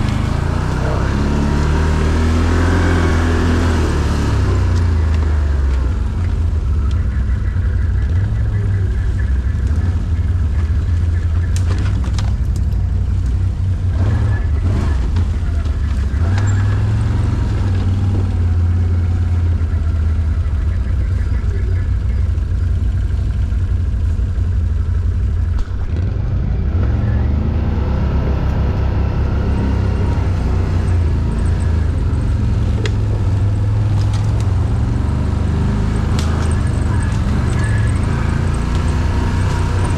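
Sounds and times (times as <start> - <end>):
quad bike engine droning: 0.0 - 39.9.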